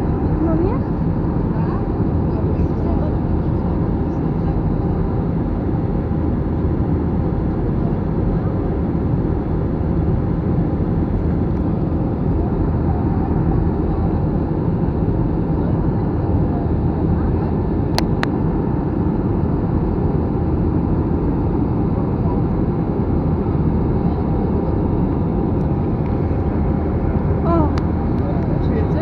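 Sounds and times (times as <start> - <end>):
airplane cabin engine and airflow noise: 0.0 - 29.0.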